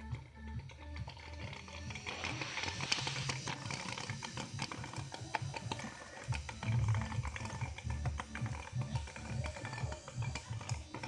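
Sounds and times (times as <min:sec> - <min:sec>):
faint film music: 0:00.0 - 0:11.0
toy blender whirring: 0:00.0 - 0:11.0
blade clicking and knocking on slime: 0:00.6 - 0:11.0.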